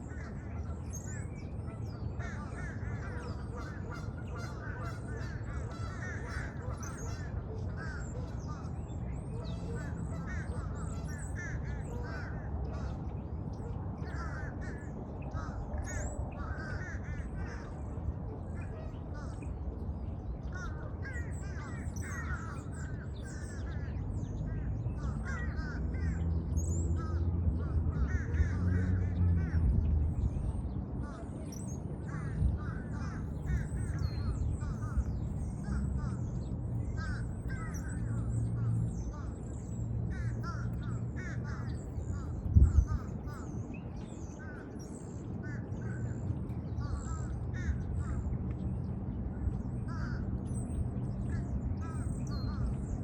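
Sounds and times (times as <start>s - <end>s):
crows cawing: 2.2s - 13.1s, 14.0s - 19.5s, 20.4s - 26.4s, 27.0s - 29.7s, 32.0s - 43.6s, 44.2s - 48.3s, 49.8s - 53.0s.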